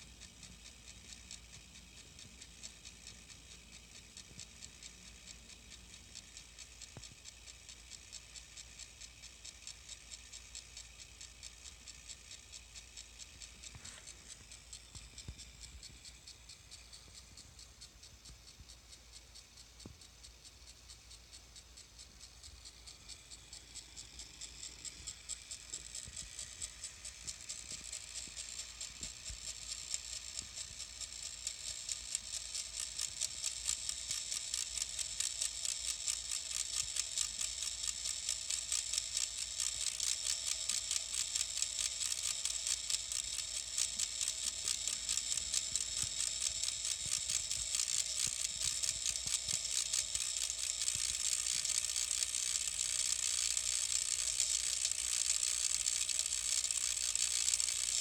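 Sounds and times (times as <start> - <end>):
high-pitched ticking electronic buzz: 0.0 - 58.0.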